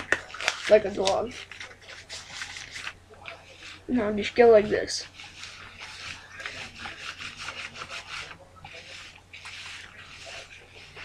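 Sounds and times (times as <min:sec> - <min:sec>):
rubber balloon rubbed on hair: 0:00.7 - 0:11.0.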